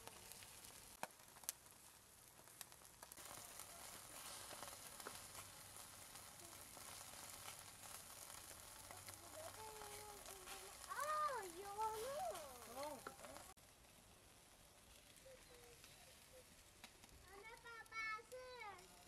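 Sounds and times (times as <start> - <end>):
food sizzling: 0.0 - 19.0.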